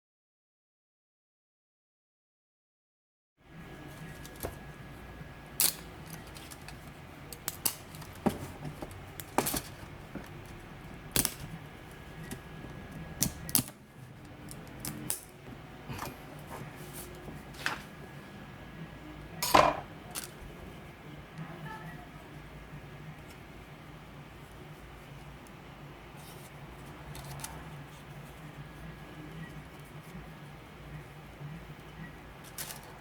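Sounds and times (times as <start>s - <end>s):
faint steady hum: 3.4s - 33.0s.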